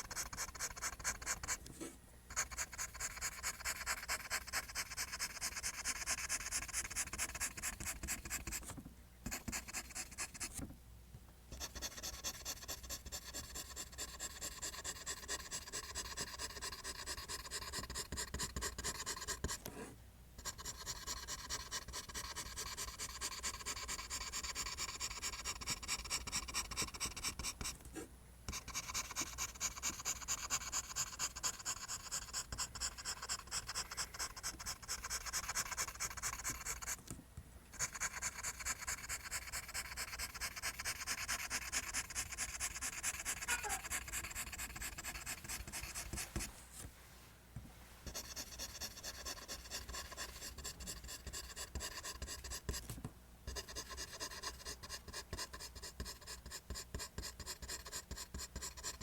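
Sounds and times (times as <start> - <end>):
pencil scratching on paper: 0.0 - 10.6, 11.6 - 37.0, 37.7 - 46.5, 48.1 - 52.9, 53.5 - 59.0.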